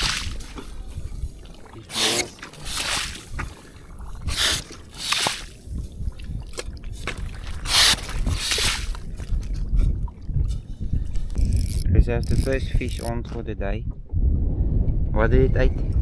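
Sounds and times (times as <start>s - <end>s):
water splashing and sloshing: 0.0s - 14.2s.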